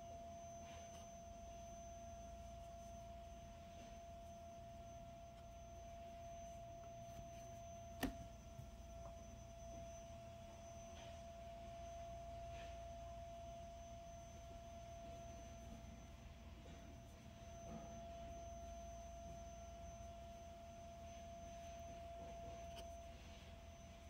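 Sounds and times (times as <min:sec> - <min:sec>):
faint steady whine: 0:00.0 - 0:24.0.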